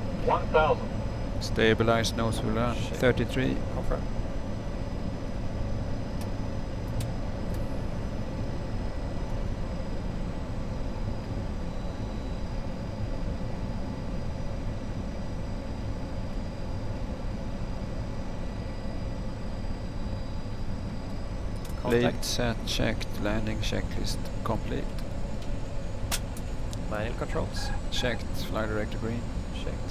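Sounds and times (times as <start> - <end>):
faint steady tones: 0.0 - 6.8, 7.4 - 29.9
aircraft airflow and engine rumble: 0.0 - 29.9.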